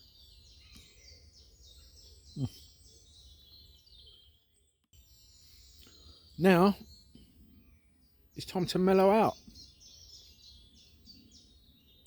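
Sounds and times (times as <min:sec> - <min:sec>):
small birds chirping and trilling: 0:00.0 - 0:12.0.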